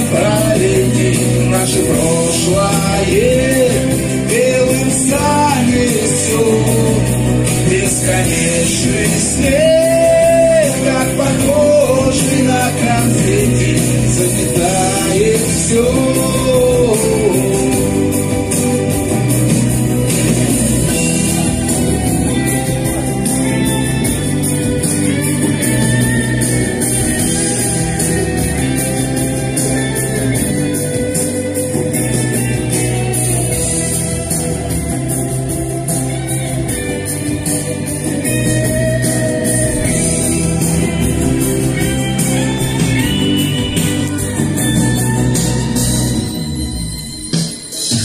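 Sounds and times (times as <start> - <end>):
instrumental pop music: 0.0 - 48.0.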